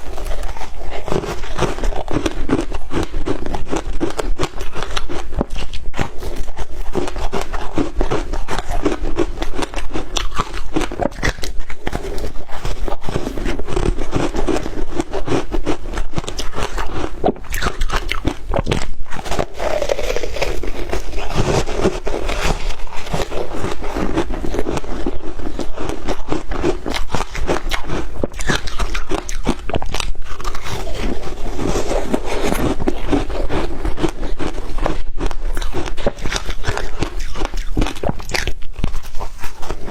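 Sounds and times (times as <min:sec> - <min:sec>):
shaved ice crunching while chewed: 0:00.0 - 0:39.9.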